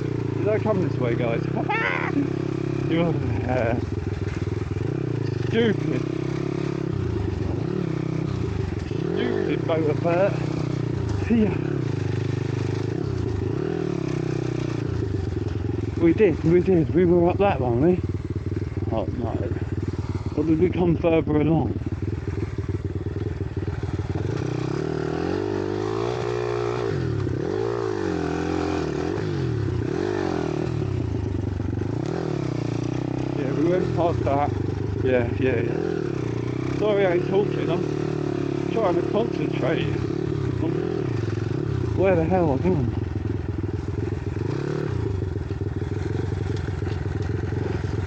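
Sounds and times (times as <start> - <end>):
small motorbike engine revving: 0.0 - 48.0.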